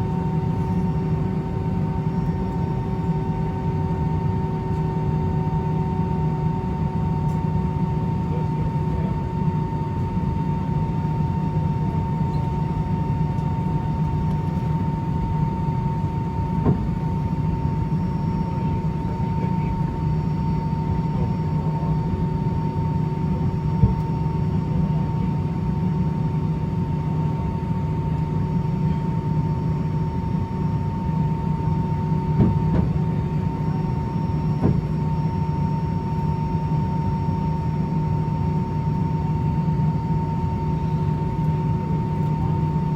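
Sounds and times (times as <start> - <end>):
aircraft cabin drone: 0.0 - 42.9.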